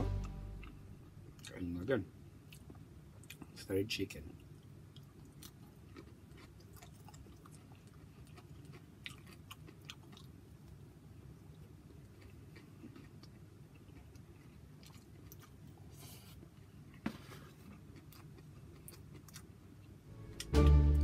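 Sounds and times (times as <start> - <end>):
person chewing food: 0.0 - 1.6, 2.5 - 3.6, 4.4 - 20.7.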